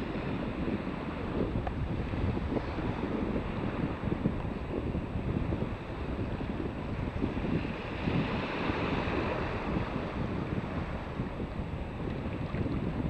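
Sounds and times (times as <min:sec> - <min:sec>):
small waves breaking on beach: 0:00.0 - 0:13.0
wind buffeting microphone: 0:00.0 - 0:13.0.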